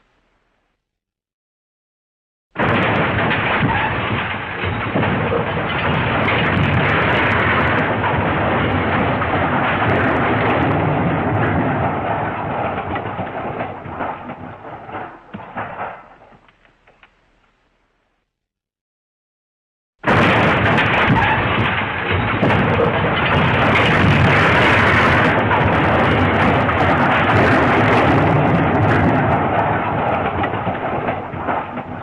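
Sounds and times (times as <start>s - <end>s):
loud crash with rumbling: 2.6s - 16.4s, 20.0s - 32.0s
scattered crackles: 2.6s - 18.3s, 20.0s - 32.0s.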